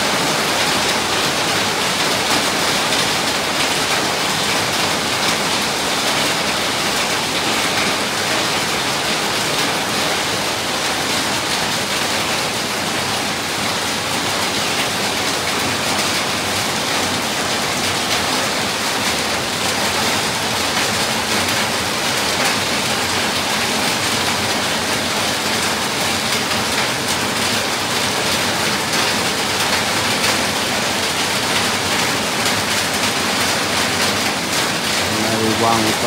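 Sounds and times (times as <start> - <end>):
heavy rain on pavement: 0.0 - 36.0.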